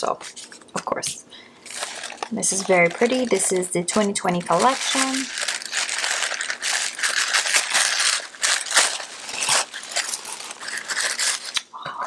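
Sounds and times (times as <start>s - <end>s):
tissue paper crinkling: 1.6s - 11.6s.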